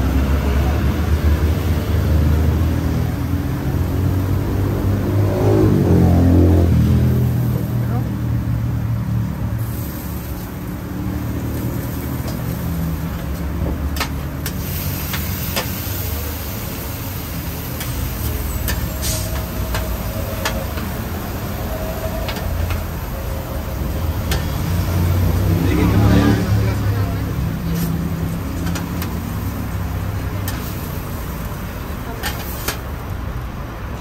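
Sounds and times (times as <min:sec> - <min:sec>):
large vehicles rumbling by: 0:00.0 - 0:34.0.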